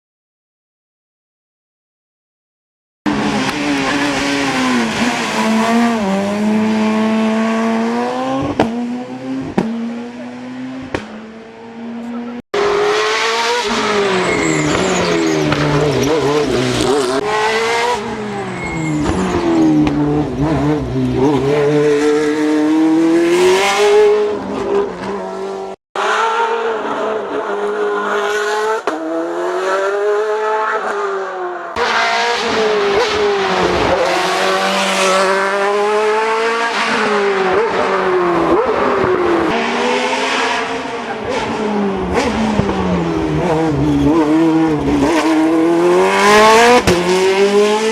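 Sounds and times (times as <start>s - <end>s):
racing car engines revving: 3.1s - 47.9s.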